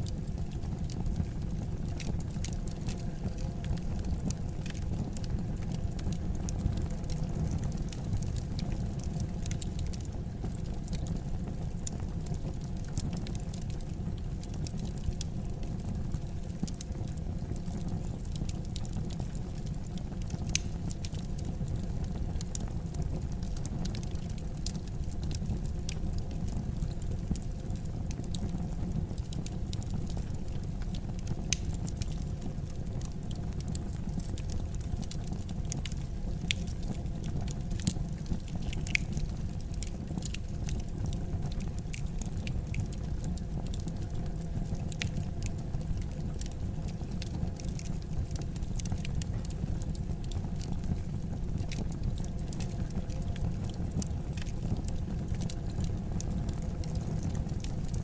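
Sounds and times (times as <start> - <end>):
fire crackling and popping: 0.0 - 58.0
fire rumbling: 0.0 - 58.0.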